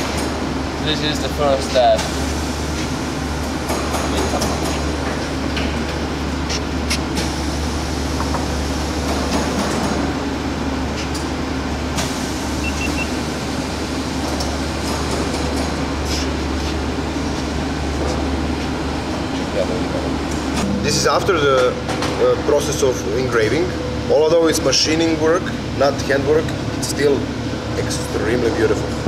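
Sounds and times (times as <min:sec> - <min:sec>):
machinery humming and whirring: 0:00.0 - 0:29.0.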